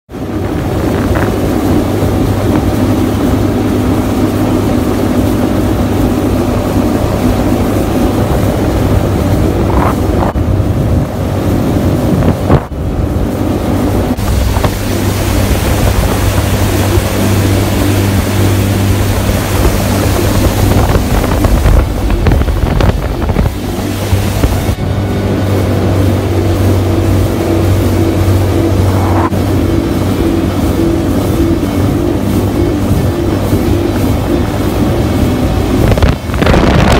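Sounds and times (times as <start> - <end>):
water rushing along hull: 0.1 - 36.9
watercraft engine drone: 0.1 - 36.9
wind noise on microphone: 0.1 - 36.9.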